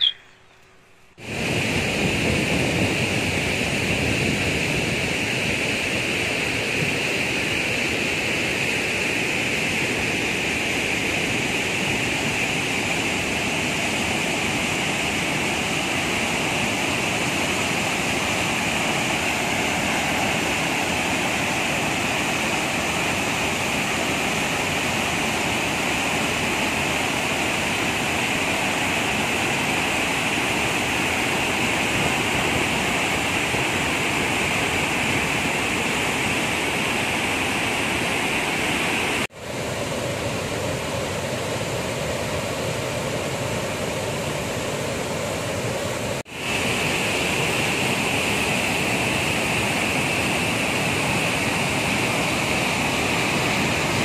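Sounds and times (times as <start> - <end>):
waterfall rushing over rocks: 1.2 - 54.0.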